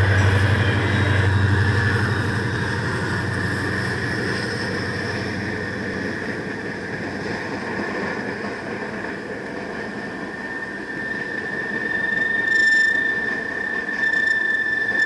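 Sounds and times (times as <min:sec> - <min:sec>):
locomotive engine rumble: 0:00.0 - 0:12.2
rail and wheel noise: 0:00.0 - 0:15.0.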